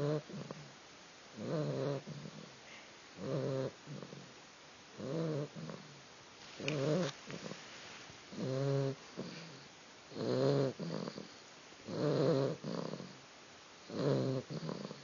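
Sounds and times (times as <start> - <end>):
puppy snoring: 0.0 - 13.2, 13.8 - 15.0.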